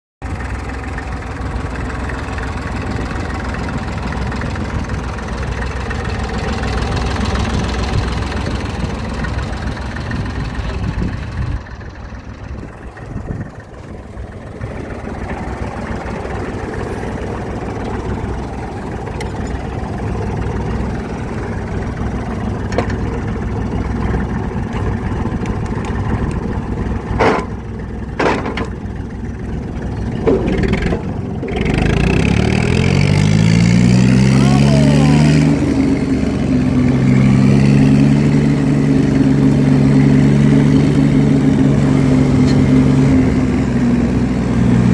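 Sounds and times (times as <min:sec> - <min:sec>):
tractor diesel engine running: 0:00.2 - 0:44.9.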